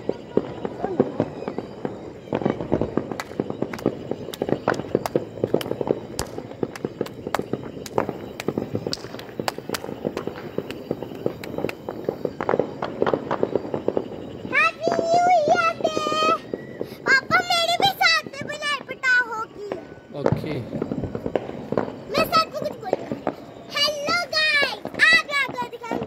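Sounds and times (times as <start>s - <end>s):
firecrackers popping and banging: 0.0s - 26.0s.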